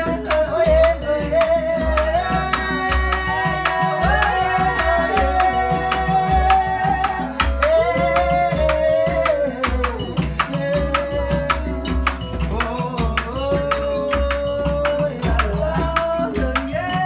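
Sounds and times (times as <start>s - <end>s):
hand drum with metal rattles: 0.0s - 17.0s
plucked string instrument: 0.0s - 17.0s.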